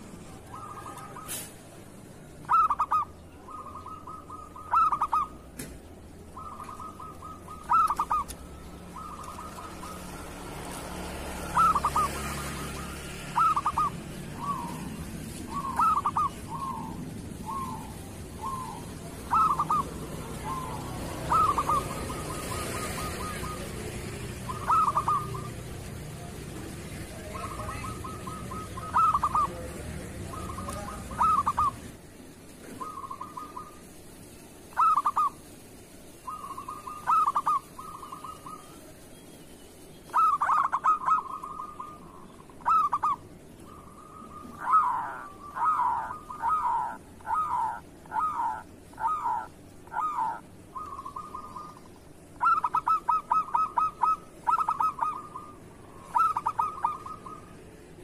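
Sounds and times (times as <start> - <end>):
dove cooing: 0.0 - 32.0, 32.6 - 39.0, 40.1 - 58.0.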